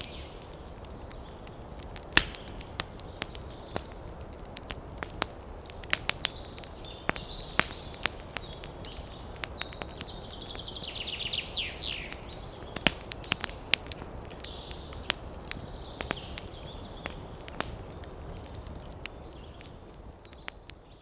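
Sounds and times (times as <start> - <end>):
campfire crackling and popping: 0.0 - 21.0
small birds chirping: 0.0 - 21.0.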